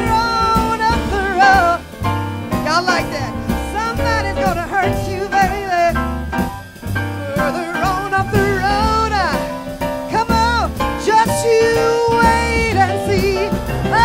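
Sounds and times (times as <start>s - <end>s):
woman singing blues: 0.0s - 6.0s, 7.0s - 14.0s
drums: 0.0s - 14.0s
piano: 0.0s - 14.0s
upright bass: 0.0s - 14.0s.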